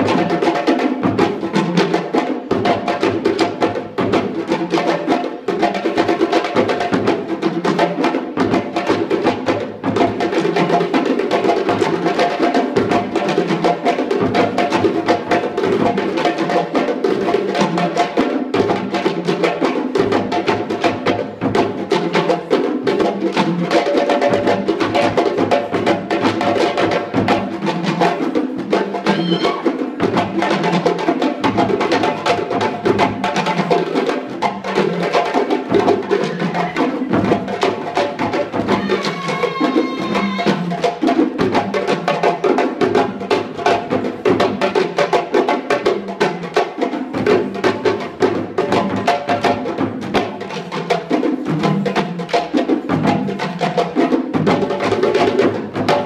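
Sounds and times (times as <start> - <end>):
drum ensemble playing rhythm: 0.0 - 56.0.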